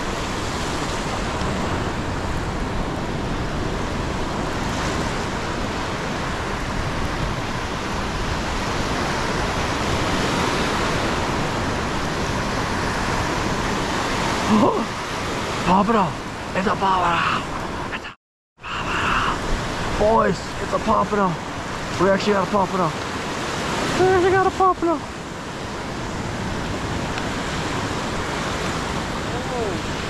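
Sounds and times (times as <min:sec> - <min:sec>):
surf breaking on beach: 0:00.0 - 0:17.9, 0:18.7 - 0:30.0.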